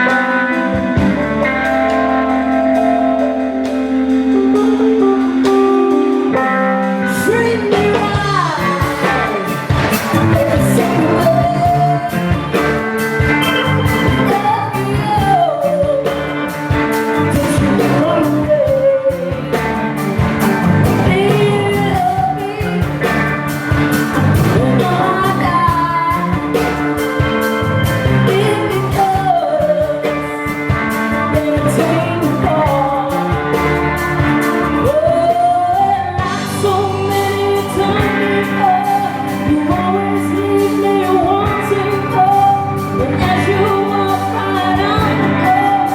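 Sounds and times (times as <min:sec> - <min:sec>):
blues-rock band playing: 0:00.0 - 0:45.9
person singing lead vocal: 0:00.0 - 0:45.9.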